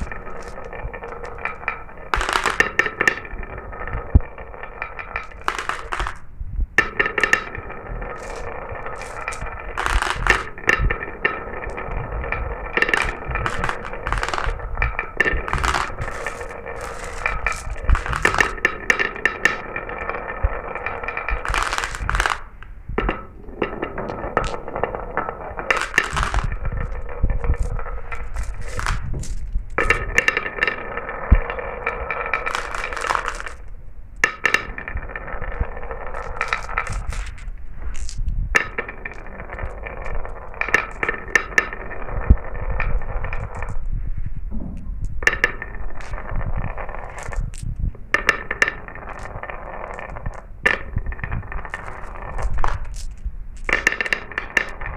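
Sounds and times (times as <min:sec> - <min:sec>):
marbles clicking and clinking: 0:00.0 - 0:43.9, 0:45.0 - 0:54.9
marbles rolling on track: 0:00.0 - 0:44.2, 0:45.0 - 0:54.9.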